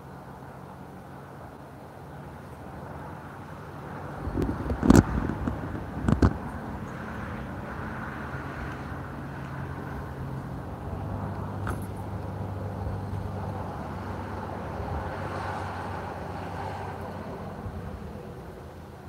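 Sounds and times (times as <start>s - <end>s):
constant rushing noise: 0.0s - 19.0s.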